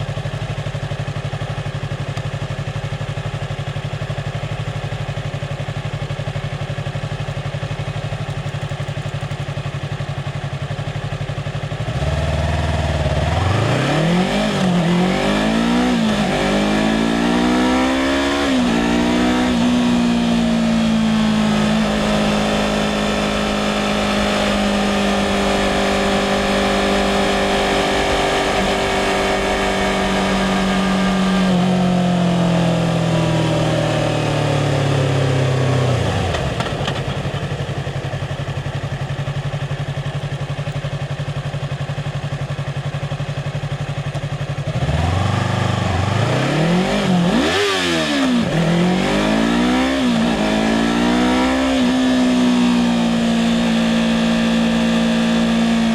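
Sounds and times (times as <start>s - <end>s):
motorcycle engine idling and revving: 0.0s - 55.9s.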